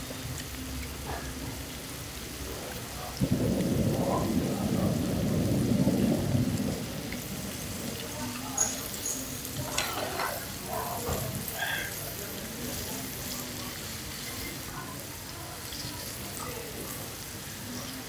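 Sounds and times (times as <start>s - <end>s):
food sizzling on a griddle: 0.0s - 18.0s.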